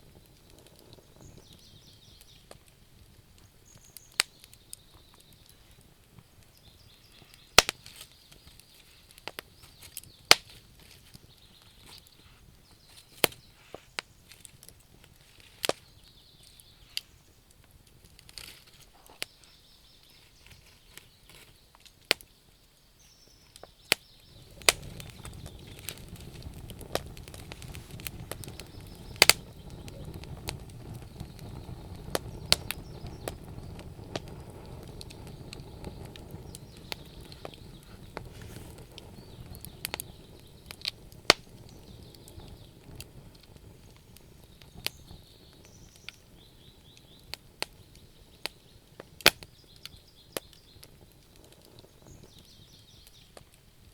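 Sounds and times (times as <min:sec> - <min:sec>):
burning wood popping: 0:00.0 - 0:53.9
wood fire crackling: 0:00.0 - 0:53.9.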